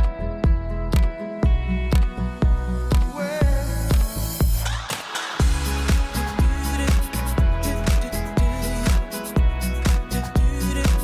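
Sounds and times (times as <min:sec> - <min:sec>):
electronic dance music: 0:01.0 - 0:11.0.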